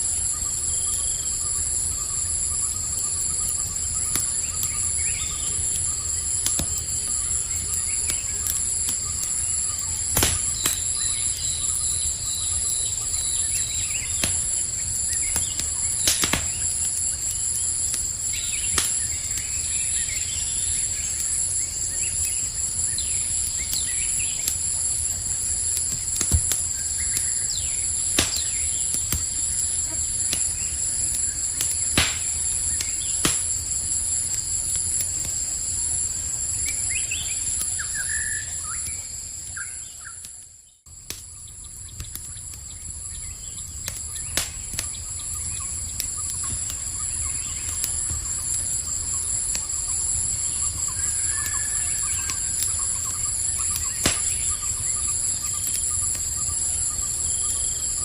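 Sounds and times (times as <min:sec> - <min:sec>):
campfire crackling and popping: 0:00.0 - 0:58.0
chorus of crickets: 0:00.0 - 0:58.0.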